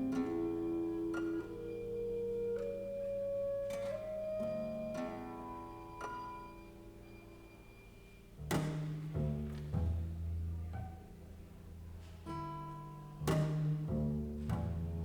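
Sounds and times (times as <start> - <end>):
chamber music ensemble: 0.0 - 15.0.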